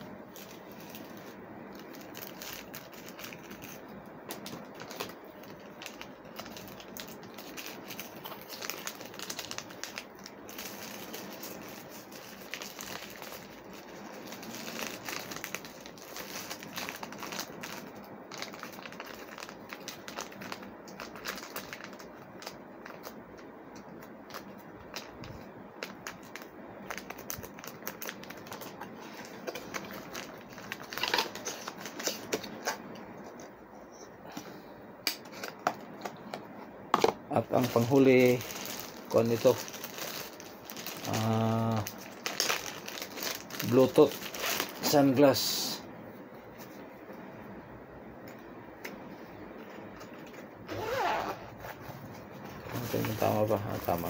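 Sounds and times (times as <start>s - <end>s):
plastic packaging crinkling: 0.0s - 33.5s, 37.0s - 45.8s, 49.6s - 54.0s.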